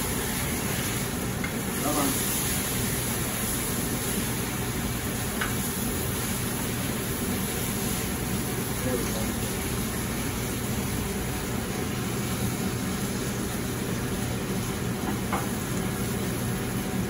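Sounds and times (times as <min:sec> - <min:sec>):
kitchen exhaust hood hum: 0:00.0 - 0:17.0
meat sizzling in oil: 0:00.0 - 0:17.0.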